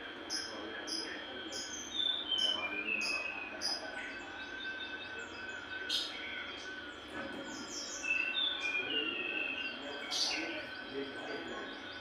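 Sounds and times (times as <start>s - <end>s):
songbird chirping and whistling: 0.3s - 6.9s, 7.6s - 12.0s.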